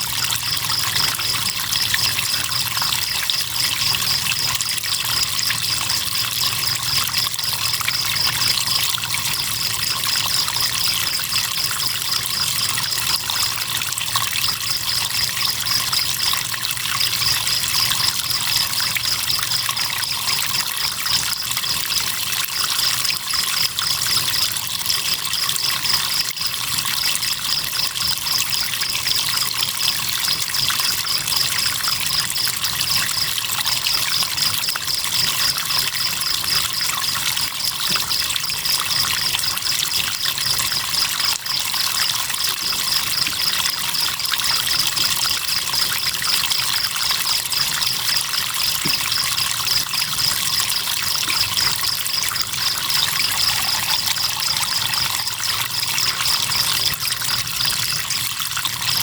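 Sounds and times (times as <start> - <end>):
crickets chirping: 0.0 - 59.0
river water trickling: 0.0 - 59.0.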